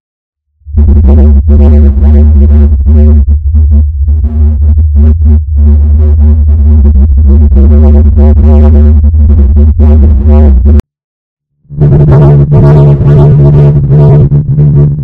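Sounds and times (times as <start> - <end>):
buzzing pitched tone: 0.6 - 10.8, 11.6 - 15.0
low bass drone: 0.6 - 10.8, 11.6 - 15.0.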